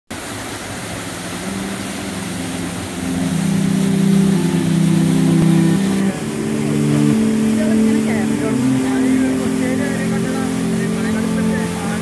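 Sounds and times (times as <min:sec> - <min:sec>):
waterfall rushing water: 0:00.1 - 0:12.0
low hum of held notes: 0:00.2 - 0:12.0.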